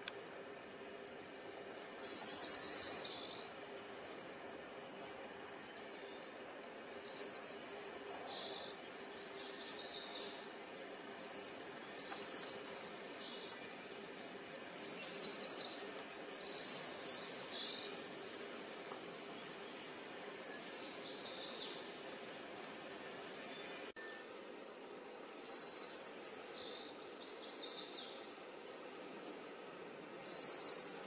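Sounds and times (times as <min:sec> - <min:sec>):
faint steady hum: 0:00.0 - 0:31.0
warbler buzzy song: 0:00.0 - 0:31.0.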